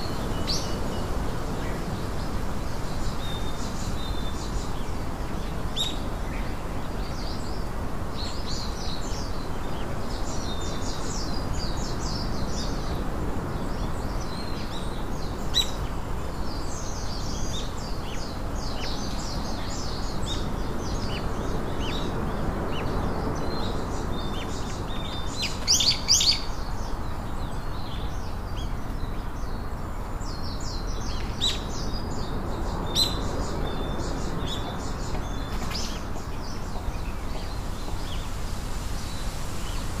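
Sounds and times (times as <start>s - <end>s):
songbirds chirping and singing: 0.0s - 38.4s
steady background hiss: 0.0s - 40.0s.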